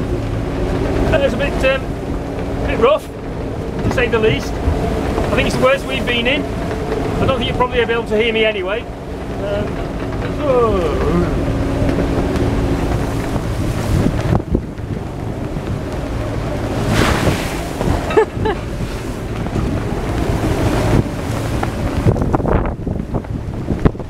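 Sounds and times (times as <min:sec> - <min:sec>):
boat engine running: 0:00.0 - 0:24.0
waves splashing against hull: 0:00.0 - 0:24.0
wind buffeting microphone: 0:00.0 - 0:24.0.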